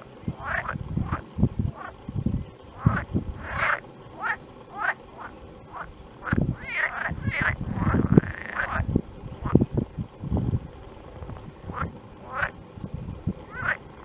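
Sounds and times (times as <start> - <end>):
frogs croaking: 0.0 - 9.8, 10.7 - 14.0.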